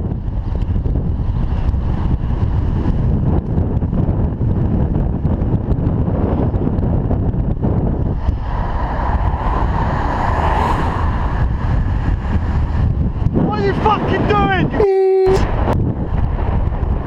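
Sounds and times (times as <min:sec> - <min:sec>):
passing road traffic: 0:00.0 - 0:17.0
wind rushing over microphone: 0:00.0 - 0:17.0.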